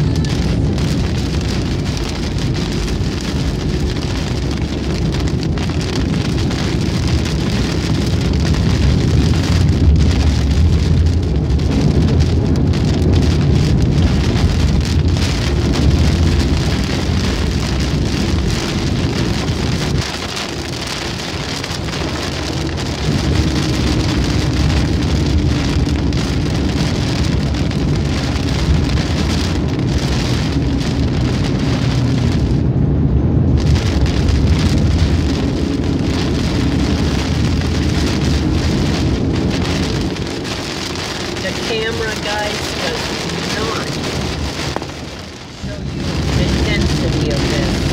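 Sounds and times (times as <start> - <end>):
heavy rain on car windshield: 0.0 - 47.9
road and engine rumble: 0.0 - 47.9.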